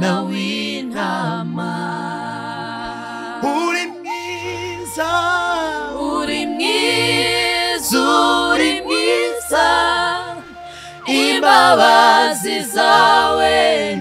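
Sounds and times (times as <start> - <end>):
group singing worship song: 0.0 - 14.0.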